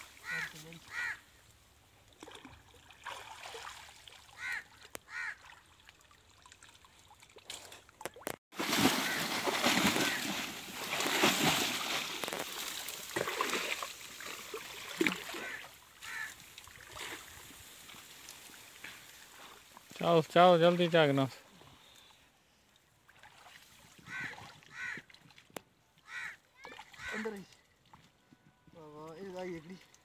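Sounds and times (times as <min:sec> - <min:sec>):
water splashing and sloshing: 0:01.5 - 0:21.6, 0:22.7 - 0:28.3.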